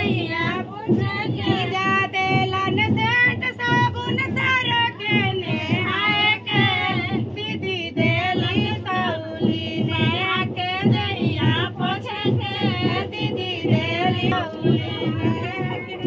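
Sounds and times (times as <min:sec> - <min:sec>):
women singing folk song unaccompanied: 0:00.0 - 0:16.0.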